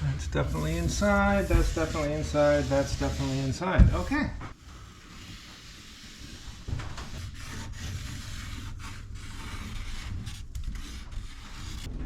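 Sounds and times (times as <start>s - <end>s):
plastic sheet rubbing and scraping: 0.0s - 12.0s.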